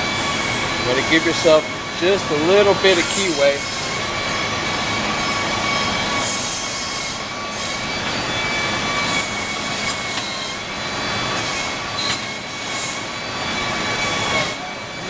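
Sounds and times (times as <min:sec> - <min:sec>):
high steady whining tones: 0:00.0 - 0:15.0.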